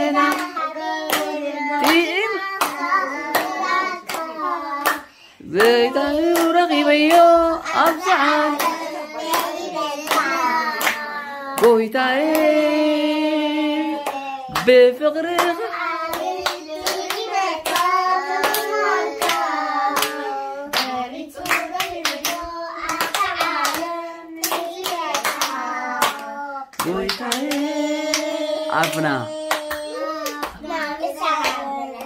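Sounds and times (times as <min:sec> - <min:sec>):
child singing: 0:00.0 - 0:32.0
hands clapping: 0:00.2 - 0:07.2, 0:08.6 - 0:12.5, 0:15.4 - 0:32.0.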